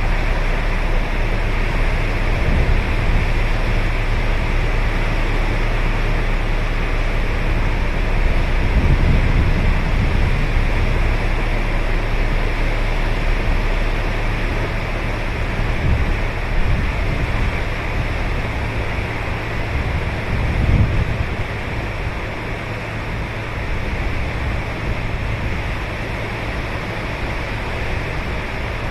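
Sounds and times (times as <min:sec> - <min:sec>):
low surf rumble: 0:00.0 - 0:28.9
waves breaking on a beach: 0:00.0 - 0:28.9.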